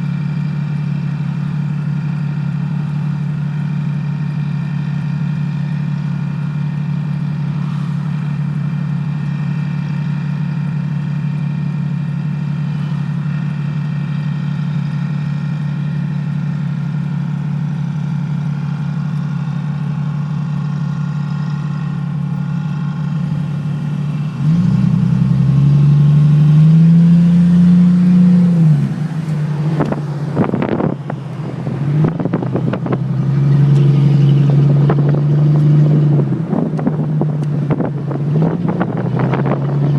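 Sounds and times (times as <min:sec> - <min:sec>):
loud engine drone revving: 0:00.0 - 0:39.9.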